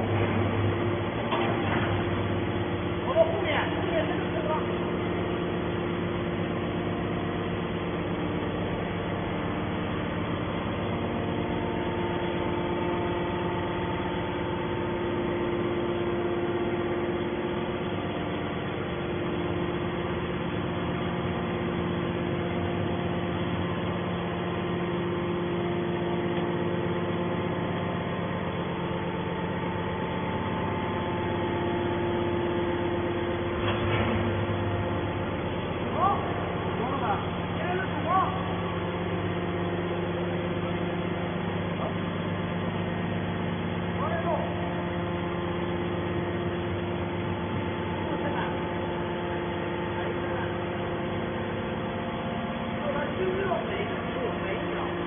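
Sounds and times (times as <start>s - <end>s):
hydraulic machine humming: 0.0s - 55.0s.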